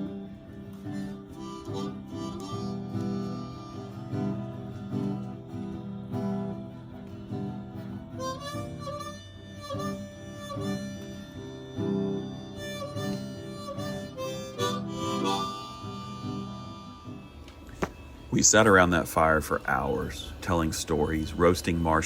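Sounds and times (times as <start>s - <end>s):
acoustic guitar chords: 0.0s - 22.0s
harmonica bending notes: 0.0s - 22.0s.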